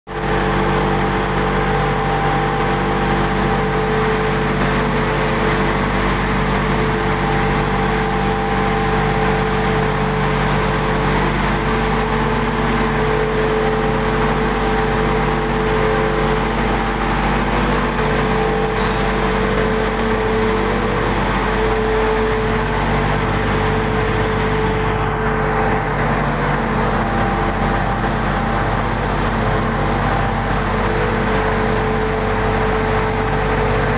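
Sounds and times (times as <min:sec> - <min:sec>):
flour mill machine drone: 0:00.1 - 0:33.9.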